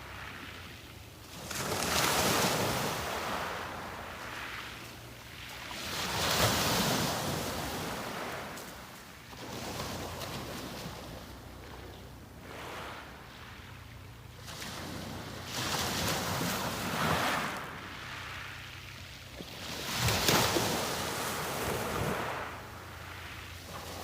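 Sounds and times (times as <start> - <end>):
sea waves breaking on beach: 0.0 - 24.0.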